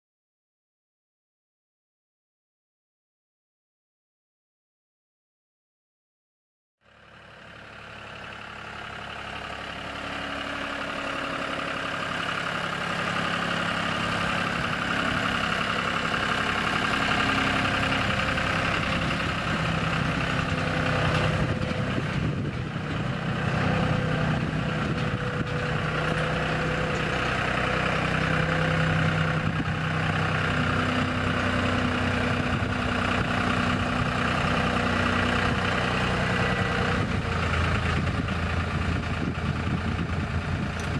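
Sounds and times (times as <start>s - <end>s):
tractor diesel engine idling: 6.8s - 40.9s.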